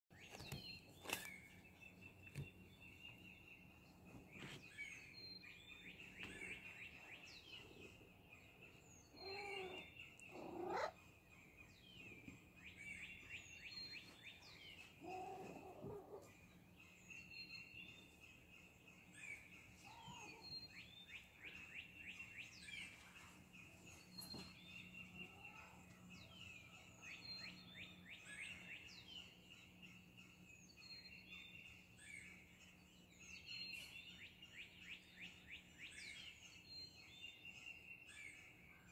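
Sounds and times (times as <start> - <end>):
songbirds chirping: 0.1 - 38.9.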